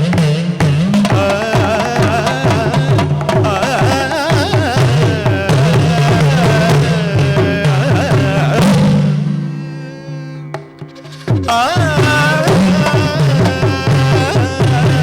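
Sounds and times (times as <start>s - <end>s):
pitch-bending hand drum: 0.0s - 9.7s, 10.5s - 15.0s
person singing ornamented melody: 1.0s - 10.4s, 11.0s - 15.0s.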